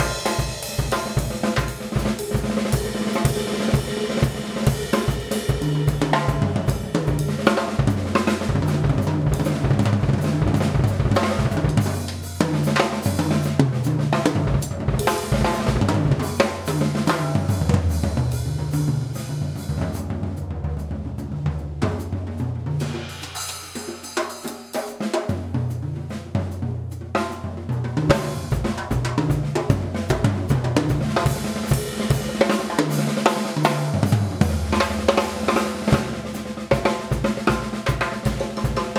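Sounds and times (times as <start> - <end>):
funk drum kit solo: 0.0 - 38.9.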